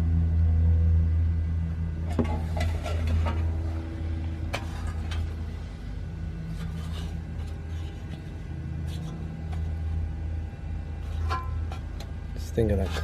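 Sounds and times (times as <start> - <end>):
low hum of shop machinery: 0.0 - 13.0.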